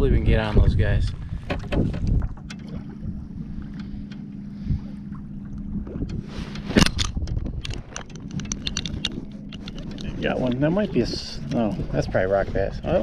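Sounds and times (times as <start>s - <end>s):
waves lapping against hull: 0.0s - 13.0s
wind buffeting microphone: 0.0s - 13.0s.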